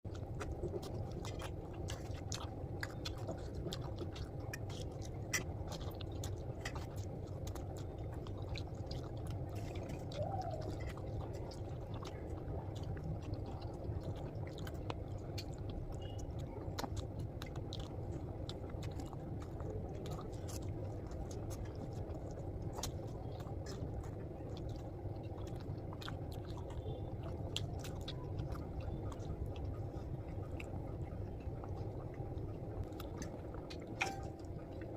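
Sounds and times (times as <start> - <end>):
low background hum: 0.0 - 34.9
person chewing food: 0.0 - 34.9.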